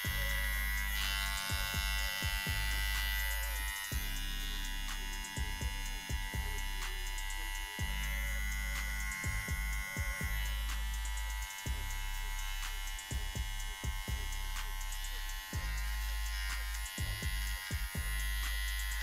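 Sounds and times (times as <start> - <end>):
hair trimmer buzzing: 0.0 - 19.0.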